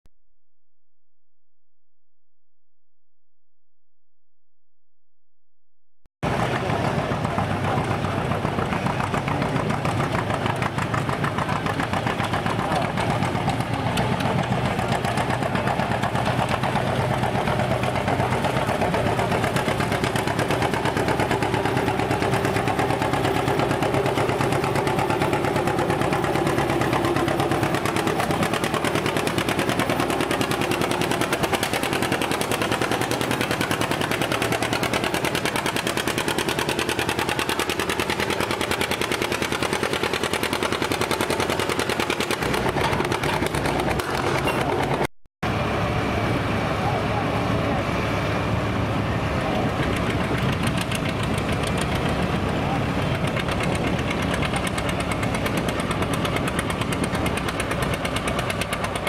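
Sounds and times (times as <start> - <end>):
tractor engine running hard: 6.2 - 59.0.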